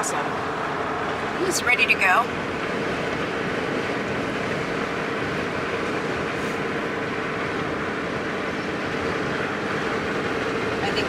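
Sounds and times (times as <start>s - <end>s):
vehicle cabin road noise: 0.0s - 11.0s.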